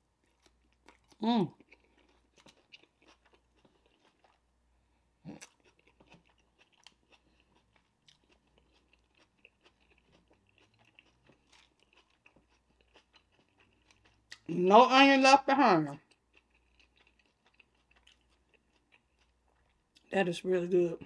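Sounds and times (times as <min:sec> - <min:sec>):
crunching of food: 0:00.2 - 0:04.5, 0:05.2 - 0:14.6, 0:15.9 - 0:20.2
chewing with wet mouth clicks: 0:00.3 - 0:04.4, 0:05.3 - 0:14.5, 0:16.0 - 0:20.1.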